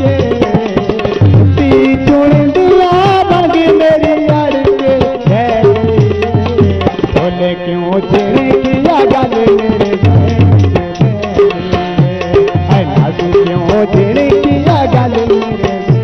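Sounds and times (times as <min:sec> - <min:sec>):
ornamented melody instrument: 0:00.0 - 0:16.0
tabla strokes: 0:00.0 - 0:16.0.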